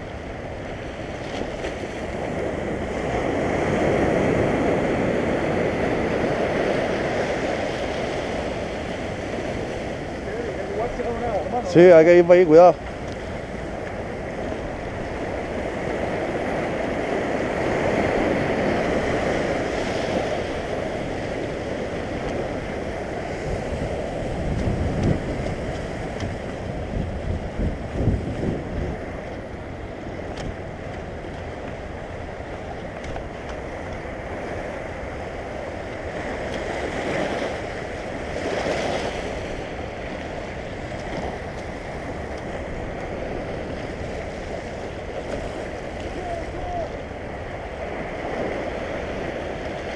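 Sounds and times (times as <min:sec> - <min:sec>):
surf washing over rocky shore: 0:00.0 - 0:49.9
wind rumbling on microphone: 0:00.0 - 0:49.9.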